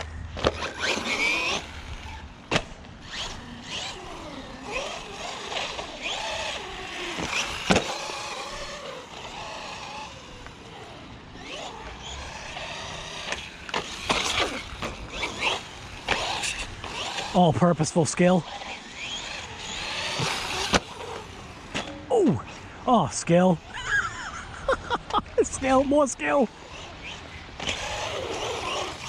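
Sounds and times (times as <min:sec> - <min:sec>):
rc car electric motor whine: 0:00.0 - 0:22.8, 0:23.6 - 0:29.0
tyre and ground noise: 0:00.0 - 0:29.0.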